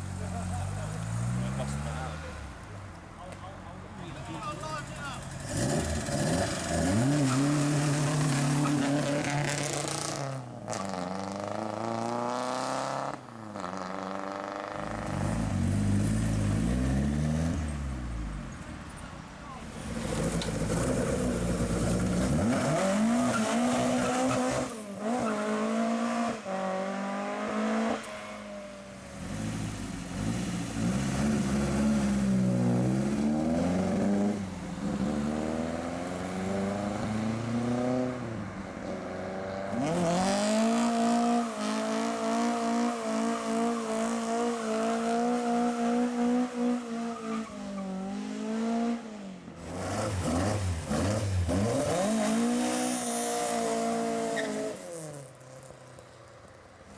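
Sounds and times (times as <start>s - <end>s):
car engines revving: 0.0s - 55.6s.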